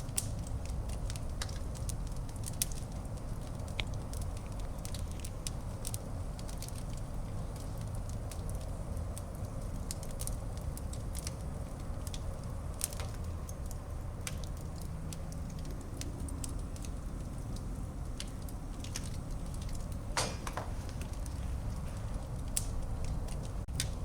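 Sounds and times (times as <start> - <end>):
fire crackling and popping: 0.0 - 24.0
fire low rumble: 0.0 - 24.0.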